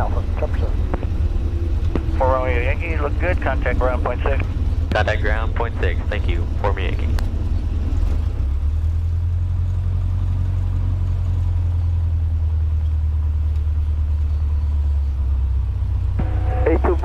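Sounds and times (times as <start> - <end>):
small plane engine droning: 0.0 - 17.0.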